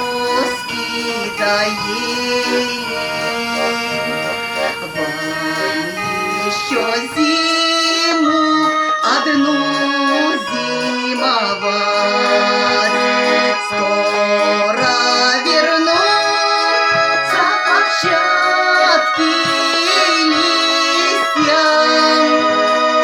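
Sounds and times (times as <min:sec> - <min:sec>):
button accordion melody: 0:00.0 - 0:23.0.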